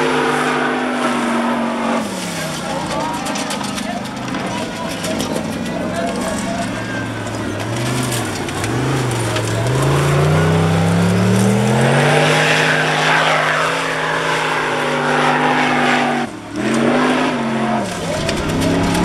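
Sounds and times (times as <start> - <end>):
buggy engine revving: 0.0 - 19.0
spinning tyres throwing sand: 0.0 - 19.0.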